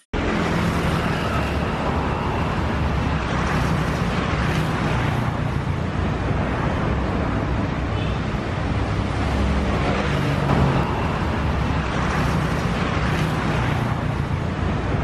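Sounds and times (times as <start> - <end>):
road traffic rumble: 0.2 - 15.0.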